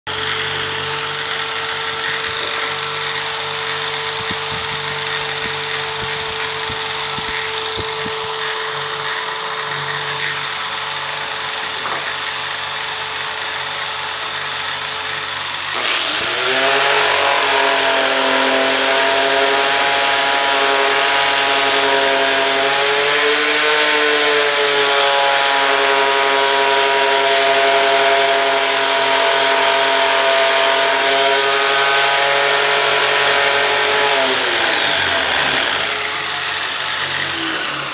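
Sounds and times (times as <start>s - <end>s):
electric drill motor humming: 0.1s - 37.9s.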